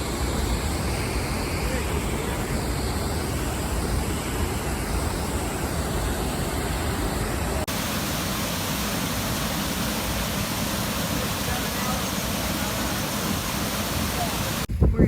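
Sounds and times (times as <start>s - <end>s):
hissy water rushing: 0.0s - 14.7s
waterfall roaring: 0.0s - 14.7s.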